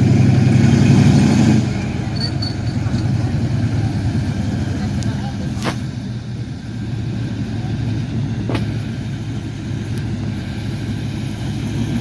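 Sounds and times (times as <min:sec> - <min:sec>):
tank engine idling: 0:00.0 - 0:12.0.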